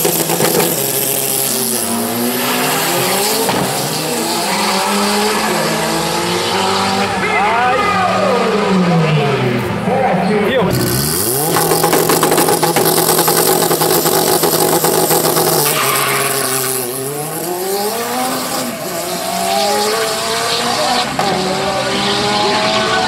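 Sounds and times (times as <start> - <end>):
car engine revving with crackle: 0.0 - 7.0, 10.7 - 23.0
car accelerating through gears: 0.0 - 9.7, 10.6 - 23.0.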